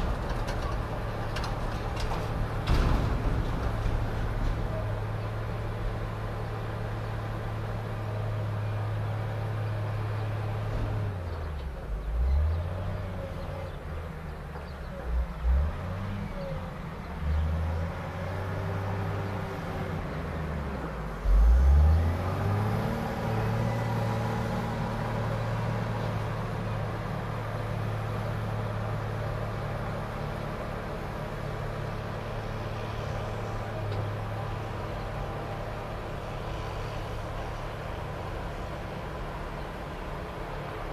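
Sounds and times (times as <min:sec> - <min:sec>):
wheel loader diesel engine: 0:00.0 - 0:40.9.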